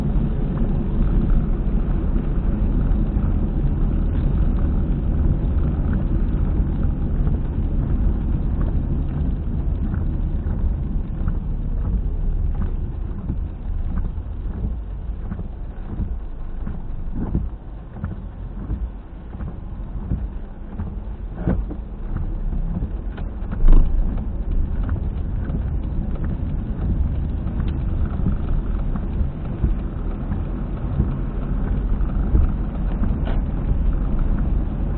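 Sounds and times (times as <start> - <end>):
car driving at speed: 0.0 - 34.9
rhythmic knocking wheel rumble: 0.0 - 34.9.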